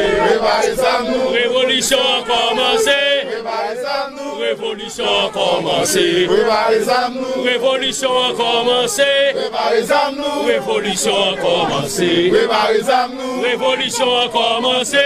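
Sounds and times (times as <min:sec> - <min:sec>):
men chanting a song: 0:00.0 - 0:15.0.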